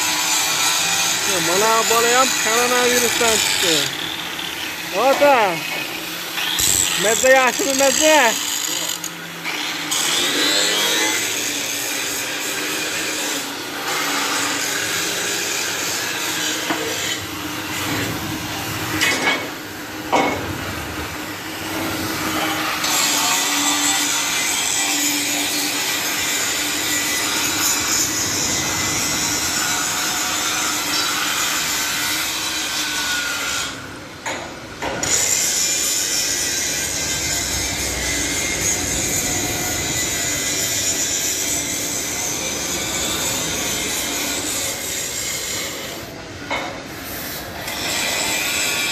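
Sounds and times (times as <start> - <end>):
metal forming machine grinding: 0.0 - 46.2.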